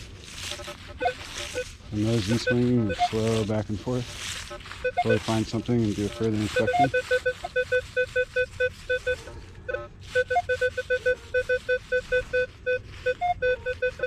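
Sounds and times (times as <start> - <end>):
metal detector beeping: 0.0 - 14.0.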